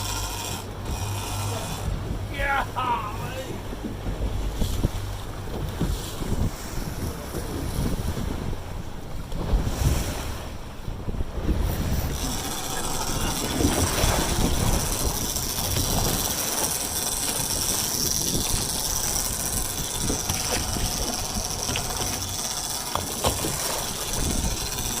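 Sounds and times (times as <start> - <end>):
heavy machinery rumbling: 0.0 - 7.6, 11.5 - 25.0.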